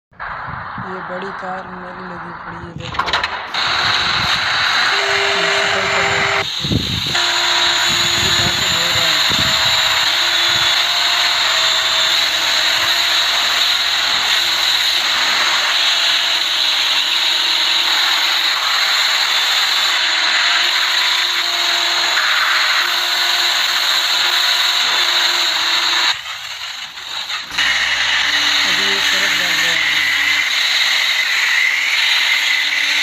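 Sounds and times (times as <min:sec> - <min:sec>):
pressure washer spraying water: 0:03.5 - 0:33.0.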